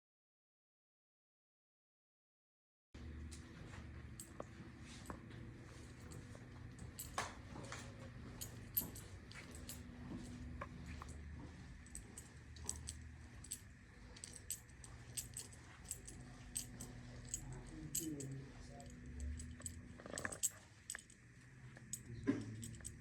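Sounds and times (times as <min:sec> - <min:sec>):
low steady hum: 0:03.0 - 0:23.0.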